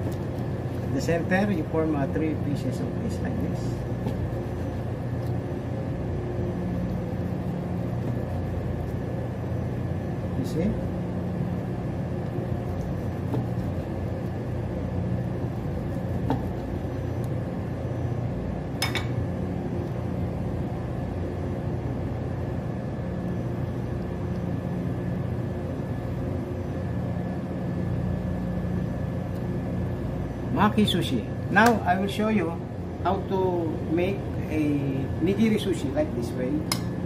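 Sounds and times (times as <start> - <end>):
machine humming: 0.0 - 37.0.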